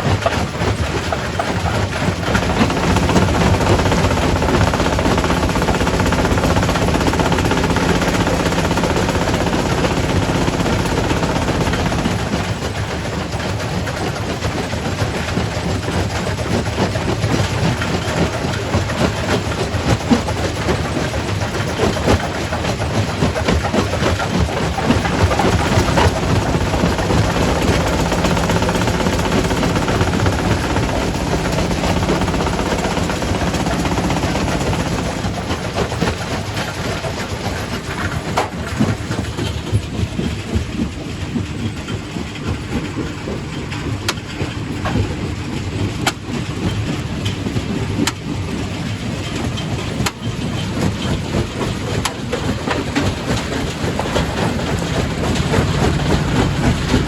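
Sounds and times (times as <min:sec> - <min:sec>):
rock crusher machine hum: 0:00.0 - 0:57.0.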